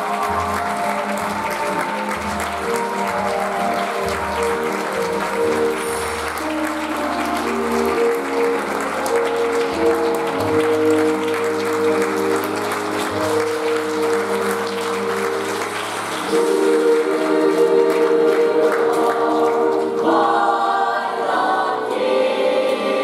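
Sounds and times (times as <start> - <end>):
audience applauding: 0.0 - 20.3
music of slow held chords: 0.0 - 23.0.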